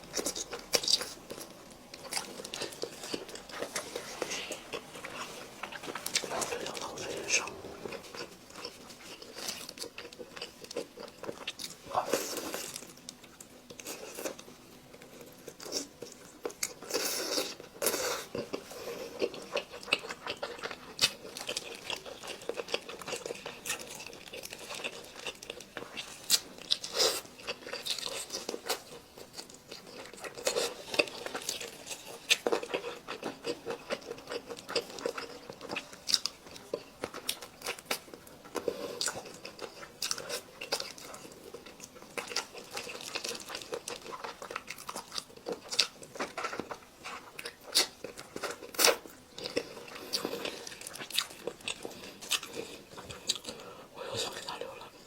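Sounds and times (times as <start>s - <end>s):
person chewing chicken: 0.0s - 55.0s.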